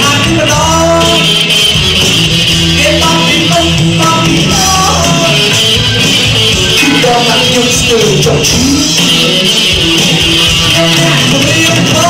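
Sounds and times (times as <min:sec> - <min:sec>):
person singing: 0:00.0 - 0:01.8, 0:02.6 - 0:12.0
bass guitar: 0:00.0 - 0:12.0
drum kit: 0:00.0 - 0:12.0
live band playing: 0:00.0 - 0:12.0.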